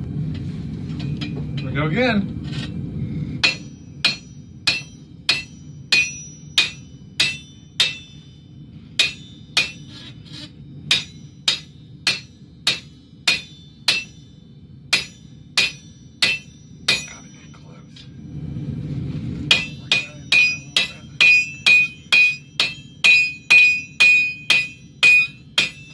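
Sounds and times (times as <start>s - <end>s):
hammer striking hot steel on anvil: 1.0s - 1.8s, 3.4s - 17.8s, 19.5s - 25.9s.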